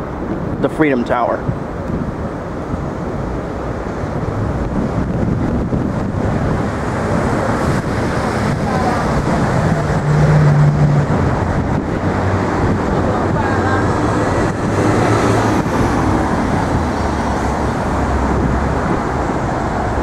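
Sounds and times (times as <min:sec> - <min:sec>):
city street traffic: 0:00.0 - 0:20.0
wind buffeting microphone: 0:00.0 - 0:20.0
vehicle passing close by: 0:01.5 - 0:20.0.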